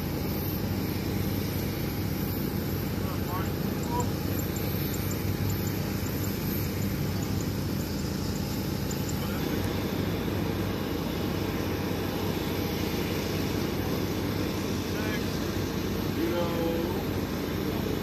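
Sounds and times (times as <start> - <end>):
engine drone: 0.0 - 18.0.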